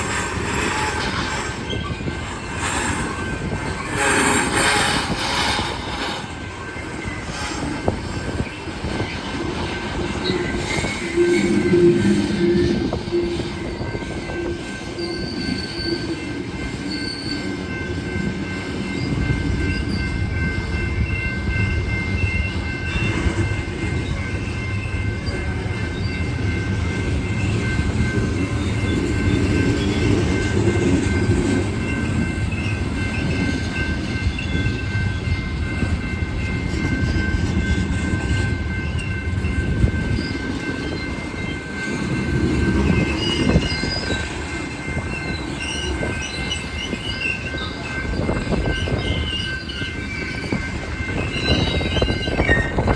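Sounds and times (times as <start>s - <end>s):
high-pitched wheel flange squeal: 0.0s - 35.8s, 38.4s - 52.9s
train wheels rumbling on rail: 0.0s - 52.9s.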